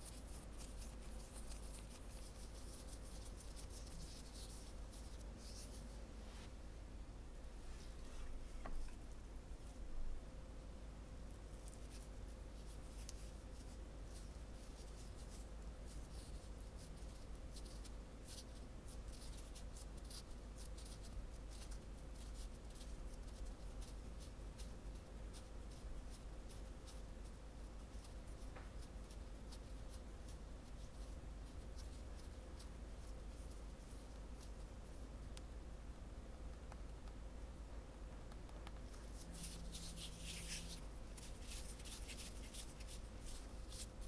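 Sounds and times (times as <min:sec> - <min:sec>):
fingers pinching dough: 0:00.0 - 0:05.9, 0:11.4 - 0:35.6, 0:37.9 - 0:44.0
faint steady hum: 0:00.0 - 0:44.0.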